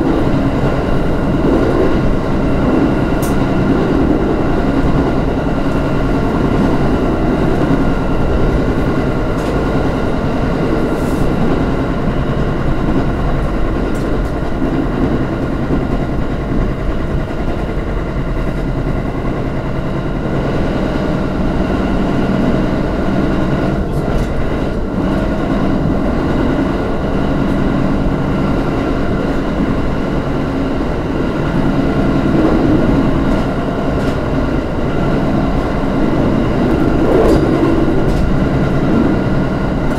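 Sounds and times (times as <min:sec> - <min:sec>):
train wheels rumbling on rails: 0:00.0 - 0:39.9
train whining tones: 0:00.0 - 0:39.9.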